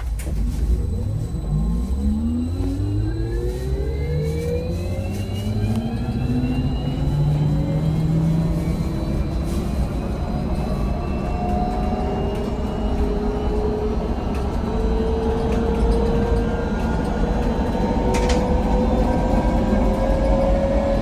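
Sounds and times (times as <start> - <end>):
low road rumble: 0.0 - 21.0.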